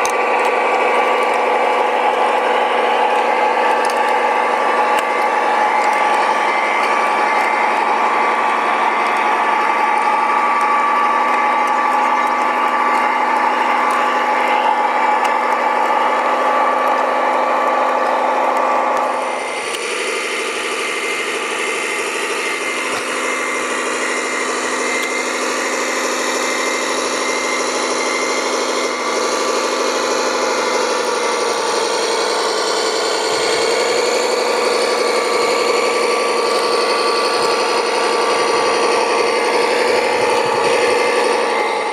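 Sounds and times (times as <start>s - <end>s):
motors and gearboxes whining: 0.0s - 41.9s.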